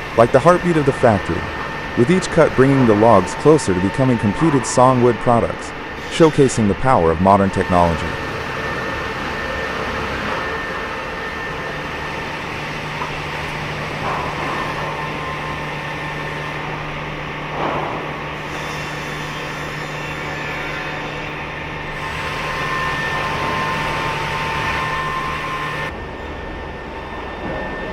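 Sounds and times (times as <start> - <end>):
circular saws cutting logs: 0.0 - 25.9
machine drone with low hum: 0.0 - 27.9.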